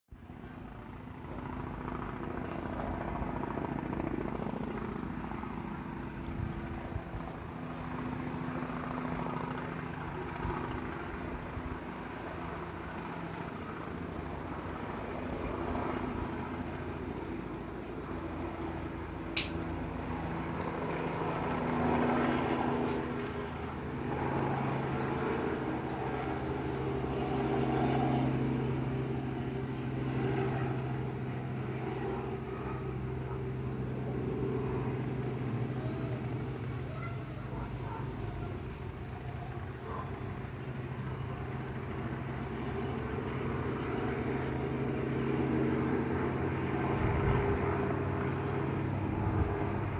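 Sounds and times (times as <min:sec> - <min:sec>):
helicopter rotor drone: 0:00.1 - 0:49.9.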